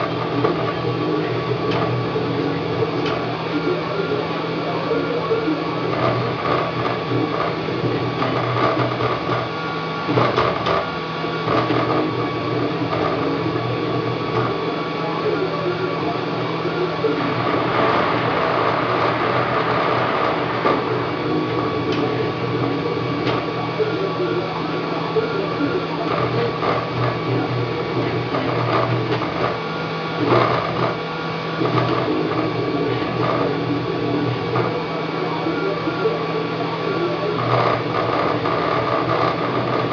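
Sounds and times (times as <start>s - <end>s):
stepper motors whining: 0.0s - 39.9s.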